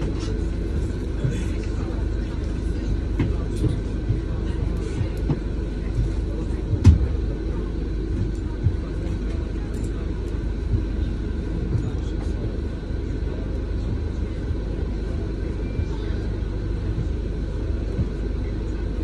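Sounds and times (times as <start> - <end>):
bus low rumble: 0.0 - 19.0.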